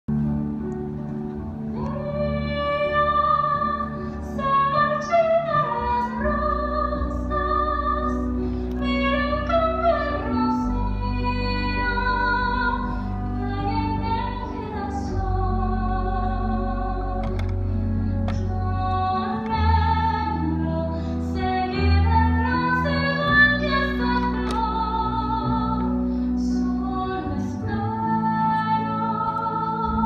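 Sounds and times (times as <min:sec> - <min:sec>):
sustained instrumental accompaniment: 0:00.1 - 0:30.0
woman singing a slow ballad: 0:01.8 - 0:17.3, 0:18.3 - 0:30.0.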